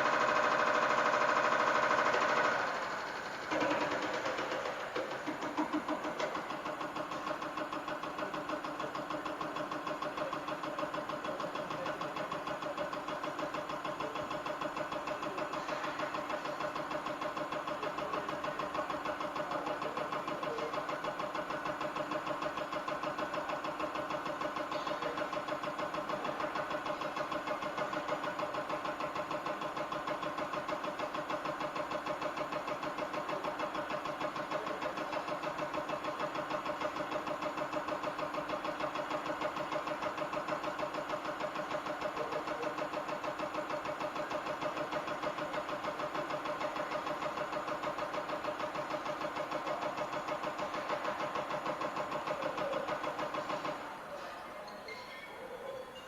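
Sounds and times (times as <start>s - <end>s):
pulsing mechanical clatter: 0.0s - 54.5s.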